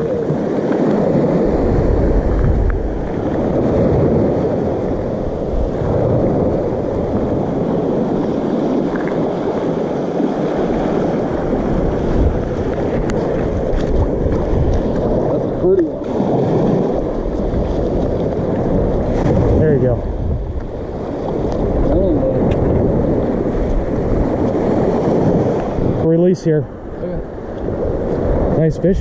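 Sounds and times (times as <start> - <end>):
small waves washing onto beach: 0.0 - 29.0
wind buffeting microphone: 0.0 - 29.0.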